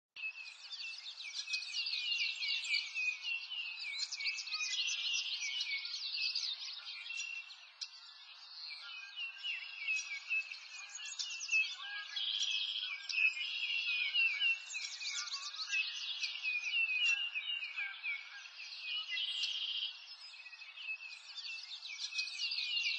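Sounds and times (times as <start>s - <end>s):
songbirds chirping and twittering: 0.2s - 22.9s.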